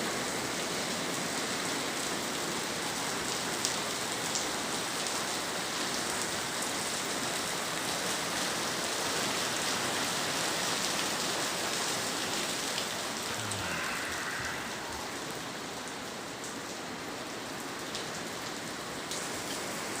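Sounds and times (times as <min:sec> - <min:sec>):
rain pattering on hard surfaces: 0:00.0 - 0:20.0.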